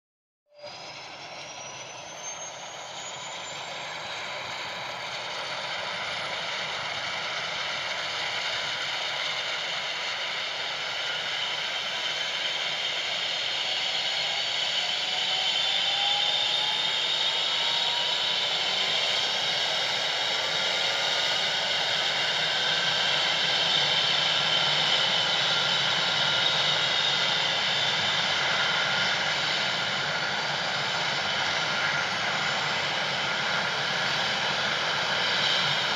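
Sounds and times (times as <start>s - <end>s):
helicopter turbine engines whining: 0.6s - 35.9s.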